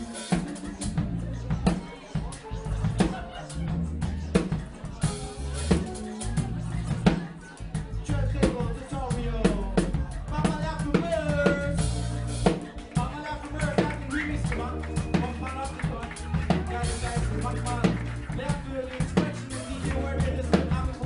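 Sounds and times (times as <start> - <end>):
held bass notes: 0.0 - 1.8, 2.5 - 21.0
drum kit beat: 0.0 - 21.0.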